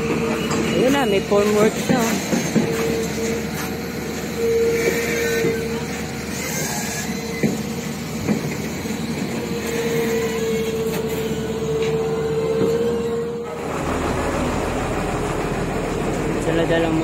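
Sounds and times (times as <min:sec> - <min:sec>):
continuous traffic rumble: 0:00.0 - 0:17.0.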